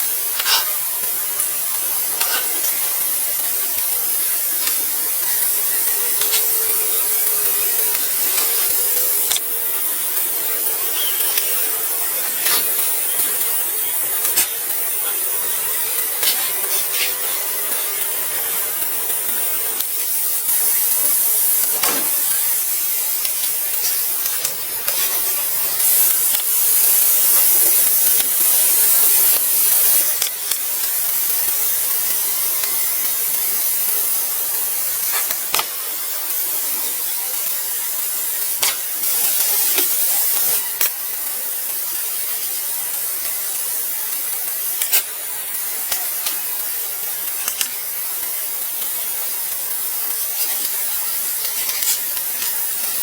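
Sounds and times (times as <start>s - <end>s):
steady high hiss: 0.0s - 53.0s.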